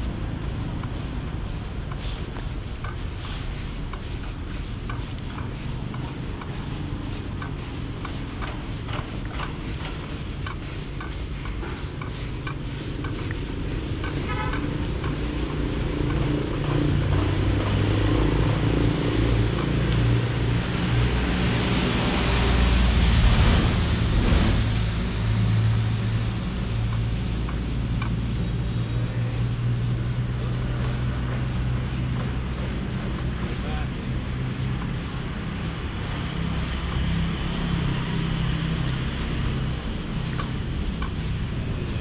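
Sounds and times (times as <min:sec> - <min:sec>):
vehicle engine humming: 0:00.0 - 0:42.0
vehicle passing: 0:04.2 - 0:42.0.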